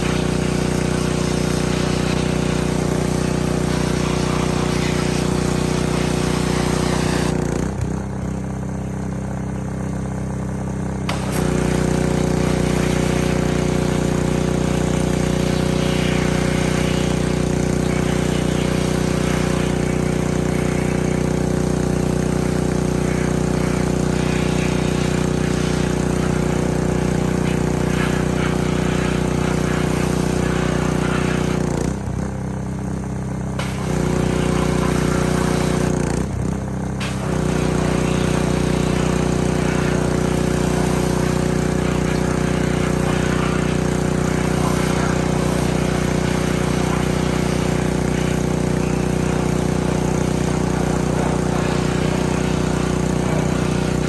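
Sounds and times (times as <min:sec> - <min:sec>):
pressure washer running: 0:00.0 - 0:54.0.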